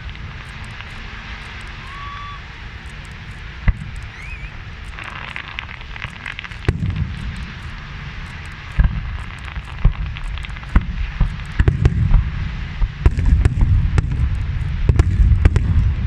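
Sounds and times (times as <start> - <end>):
firework shells bursting: 0.0 - 16.0
fireworks crackling: 0.0 - 16.0
low rumble: 0.0 - 16.0.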